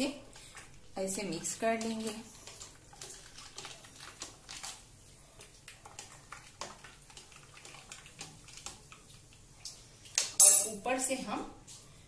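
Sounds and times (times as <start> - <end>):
soft watery swirl: 0.0 - 10.2.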